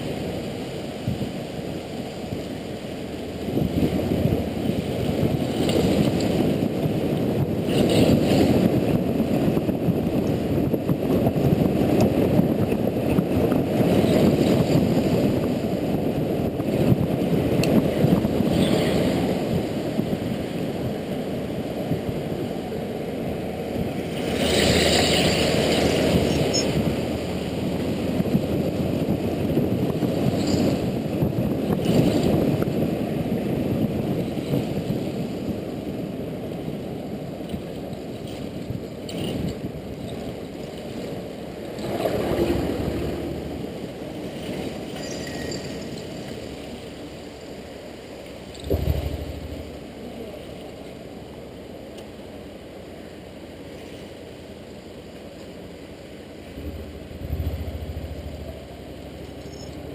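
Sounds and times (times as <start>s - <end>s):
wind on microphone: 0.0s - 52.6s, 53.2s - 59.9s
motorcycle road noise: 0.0s - 59.9s.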